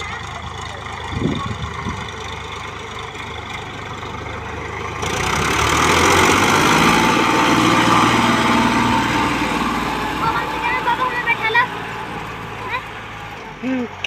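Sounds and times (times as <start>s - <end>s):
tractor diesel engine revving: 0.0s - 14.0s.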